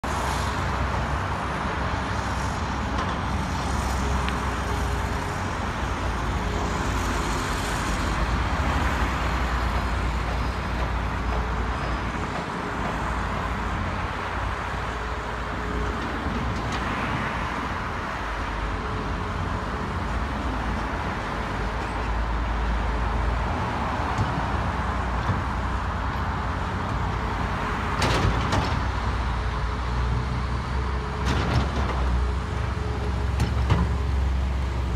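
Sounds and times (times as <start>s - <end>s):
excavator diesel engine rumble: 0.1s - 34.9s.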